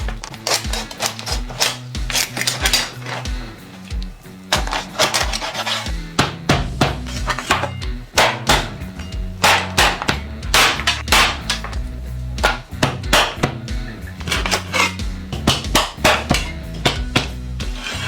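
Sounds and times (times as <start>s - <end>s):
background music with bass line: 0.0s - 18.0s.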